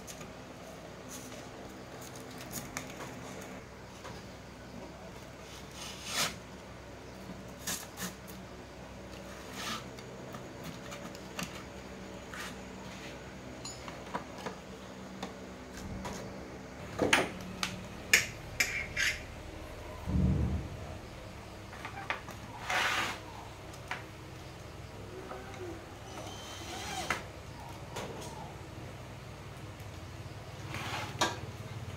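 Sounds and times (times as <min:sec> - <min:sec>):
low electrical buzz: 0:00.0 - 0:31.9.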